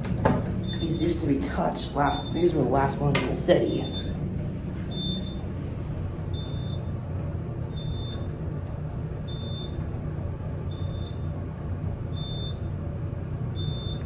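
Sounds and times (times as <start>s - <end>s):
elevator beeping: 0.0s - 14.0s
low elevator hum: 0.0s - 14.0s.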